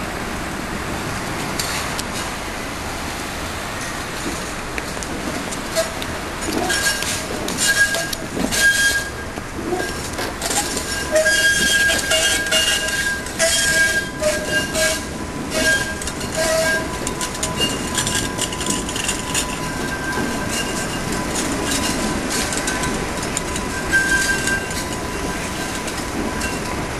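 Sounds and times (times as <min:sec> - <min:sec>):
wheels clattering over rails: 0:00.3 - 0:26.9
tram wheels squealing: 0:03.8 - 0:26.9.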